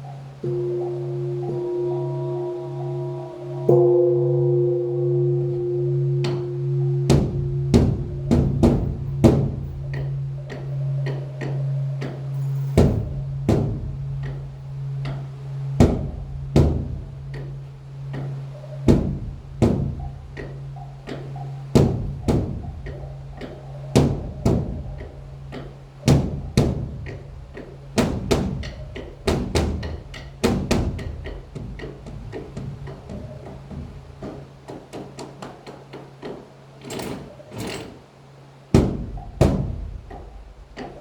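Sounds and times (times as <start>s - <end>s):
large drum beaten with sticks: 0.0s - 41.0s
low pulsing hum: 0.0s - 41.0s.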